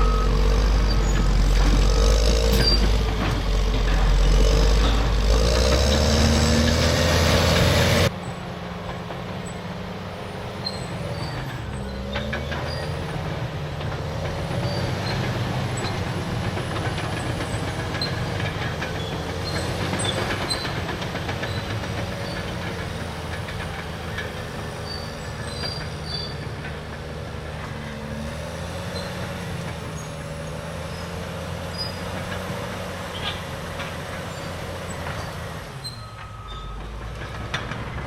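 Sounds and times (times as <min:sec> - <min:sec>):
diesel engine running: 0:00.0 - 0:38.0
steel tracks clanking and squeaking: 0:00.0 - 0:38.0.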